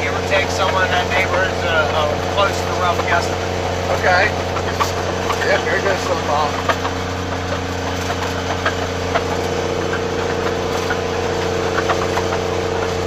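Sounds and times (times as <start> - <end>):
snowcat engine humming: 0.0 - 13.0.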